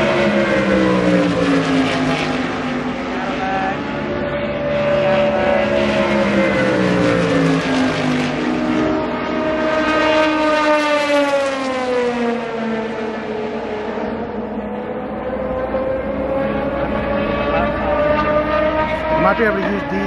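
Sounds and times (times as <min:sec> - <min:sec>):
race cars passing at high revs: 0:00.0 - 0:20.0.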